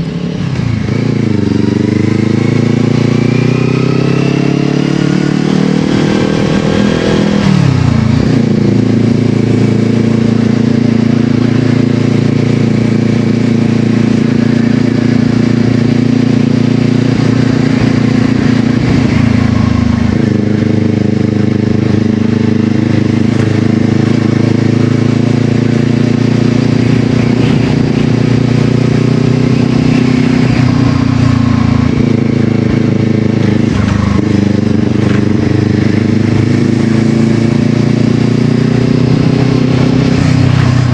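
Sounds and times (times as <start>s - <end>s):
loud motorcycle engine: 0.0s - 40.9s.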